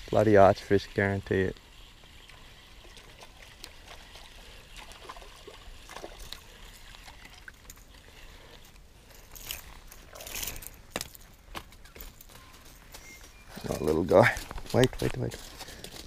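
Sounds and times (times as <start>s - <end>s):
river water trickling over rocks: 0.0s - 13.0s.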